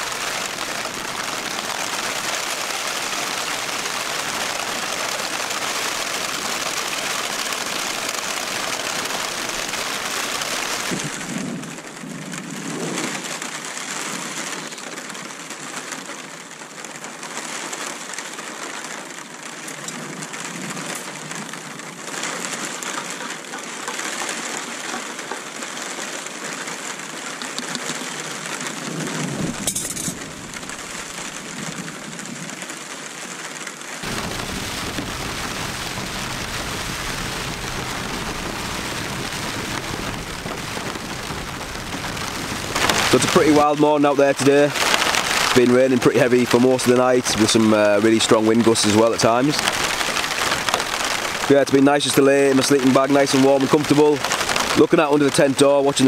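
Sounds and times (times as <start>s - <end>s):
heavy rain on a tent: 0.0s - 56.0s
rustle: 0.0s - 56.0s.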